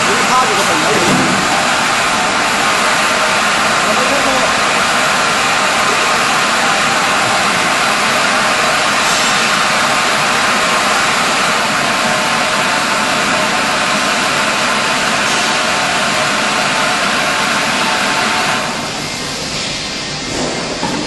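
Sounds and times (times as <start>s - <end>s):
washing machine rushing hiss: 0.0s - 21.0s.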